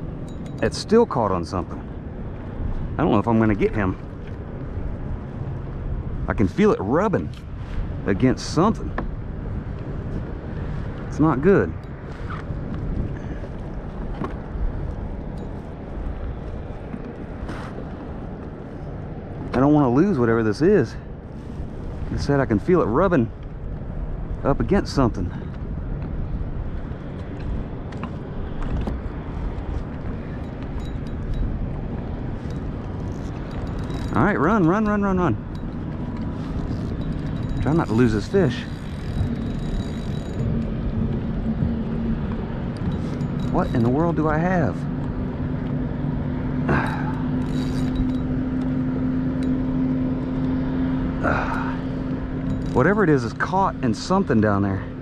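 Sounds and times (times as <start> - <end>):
low engine hum: 0.0 - 55.0
wind rumbling on microphone: 0.0 - 55.0.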